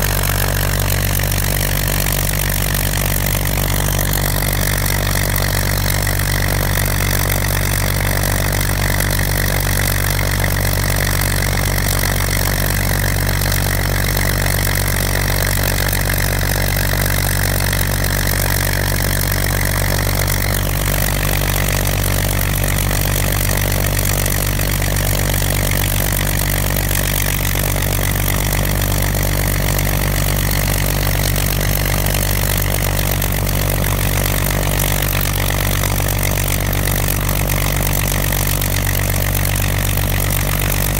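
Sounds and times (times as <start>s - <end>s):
aircraft piston engine running: 0.0s - 40.9s.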